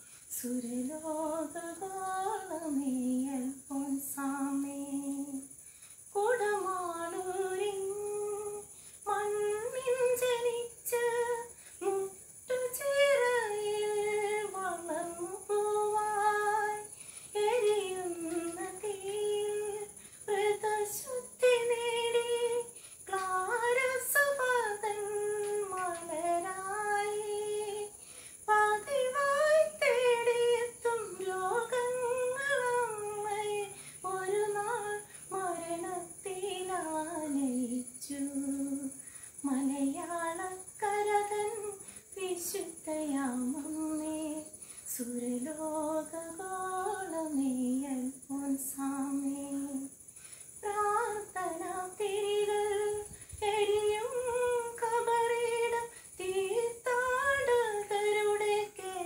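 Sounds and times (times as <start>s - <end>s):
woman singing unaccompanied: 0.0s - 59.0s.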